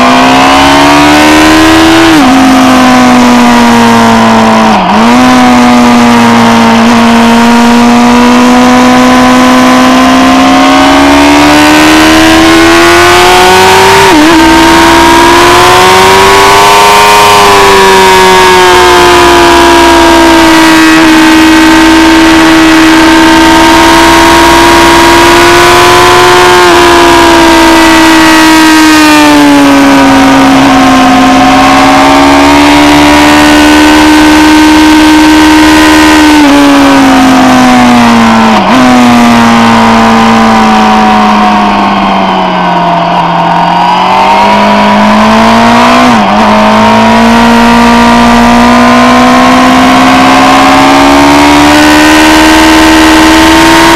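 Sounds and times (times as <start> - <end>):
motorcycle engine at high revs: 0.0 - 53.9.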